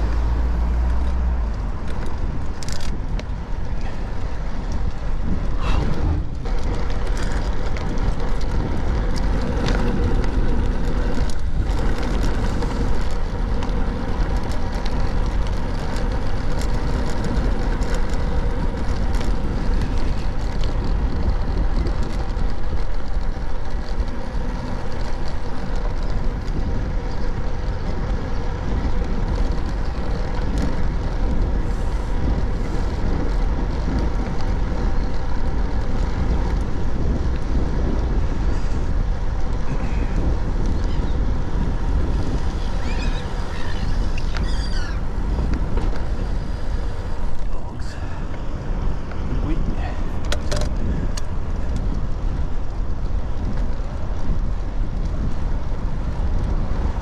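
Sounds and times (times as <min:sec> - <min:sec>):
bicycle tyre and road noise: 0:00.0 - 0:57.0
wind rush on microphone: 0:00.0 - 0:57.0.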